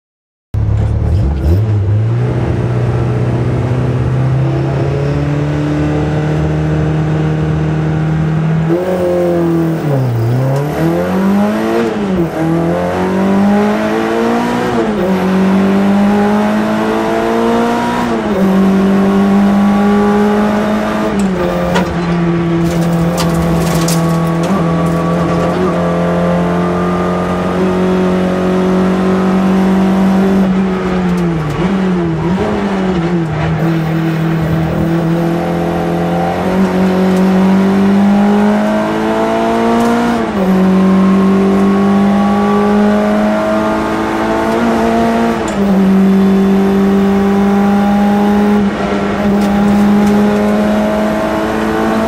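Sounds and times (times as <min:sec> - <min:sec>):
rally car engine revving: 0:00.6 - 0:52.0.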